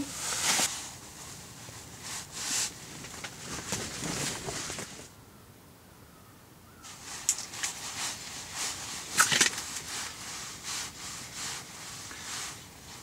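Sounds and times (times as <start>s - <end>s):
fabric rustling: 0.0s - 5.1s, 6.9s - 13.0s.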